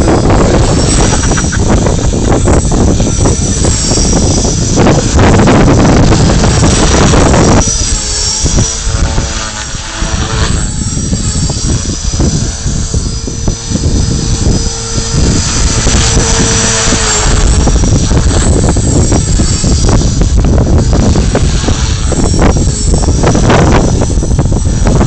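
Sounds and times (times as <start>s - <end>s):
rc helicopter motor whine: 0.0s - 25.0s
wind buffeting microphone: 0.0s - 25.0s.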